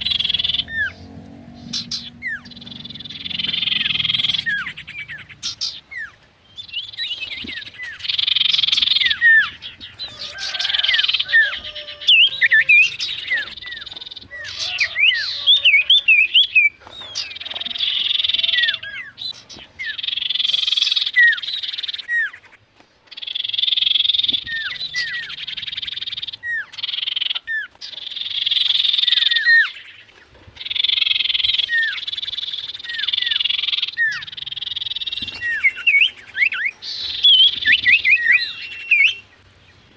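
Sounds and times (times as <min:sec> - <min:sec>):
bird whistled calls and trills: 0:00.0 - 0:39.4.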